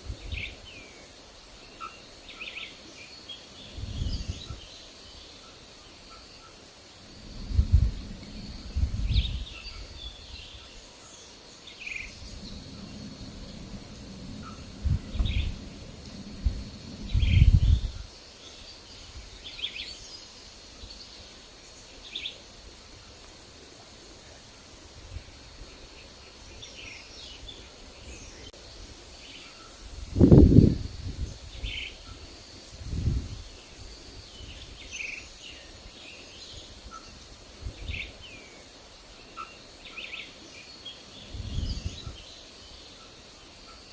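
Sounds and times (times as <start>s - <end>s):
low rumbling wind gusts: 0.0s - 1.7s, 3.5s - 5.1s, 6.6s - 21.6s, 22.5s - 38.3s, 41.0s - 42.5s
forest birds chirping: 0.0s - 43.9s
high insect drone: 0.0s - 43.9s.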